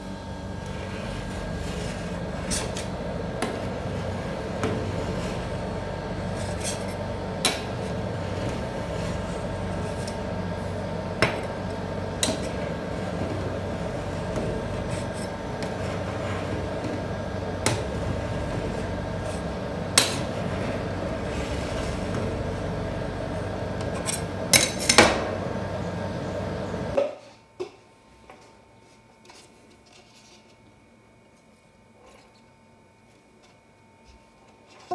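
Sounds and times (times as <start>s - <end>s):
steady machine hum: 0.0s - 29.2s.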